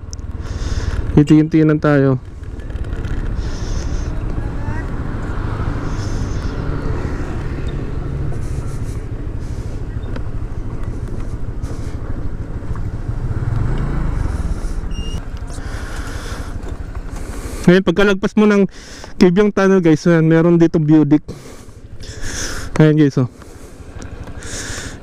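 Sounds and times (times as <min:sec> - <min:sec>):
road noise: 0:00.0 - 0:25.0
vehicle engine: 0:00.0 - 0:25.0.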